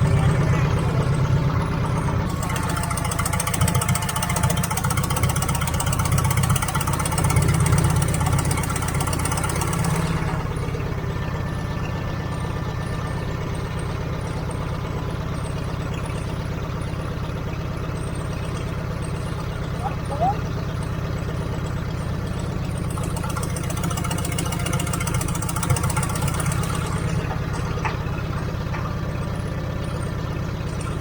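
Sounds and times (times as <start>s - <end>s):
heavy equipment engine idling: 0.0s - 31.0s.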